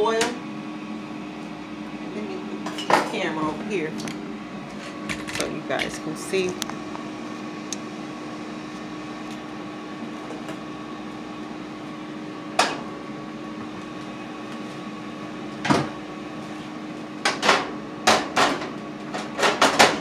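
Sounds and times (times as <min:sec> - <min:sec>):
air fryer fan hum: 0:00.0 - 0:20.0.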